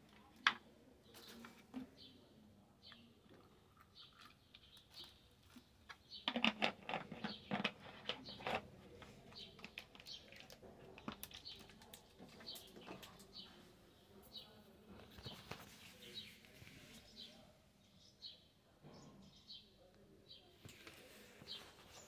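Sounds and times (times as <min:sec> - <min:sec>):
birds chirping: 0:01.0 - 0:22.0.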